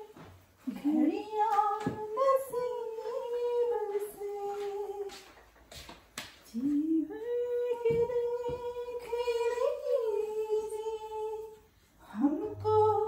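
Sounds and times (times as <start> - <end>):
woman singing: 0.0 - 5.3, 6.5 - 13.0.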